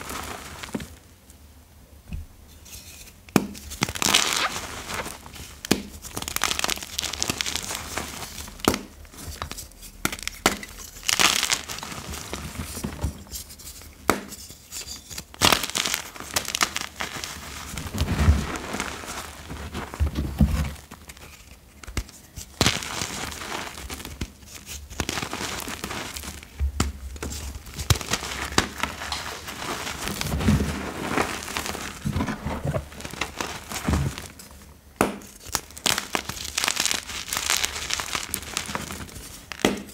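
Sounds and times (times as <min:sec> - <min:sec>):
chalk crunching and crumbling: 0:02.7 - 0:34.5, 0:35.2 - 0:39.9.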